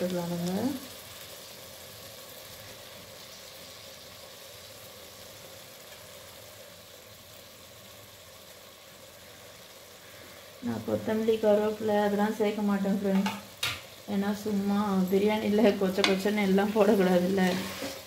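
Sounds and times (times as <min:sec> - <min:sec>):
masala sizzling in a pot: 0:00.0 - 0:18.0.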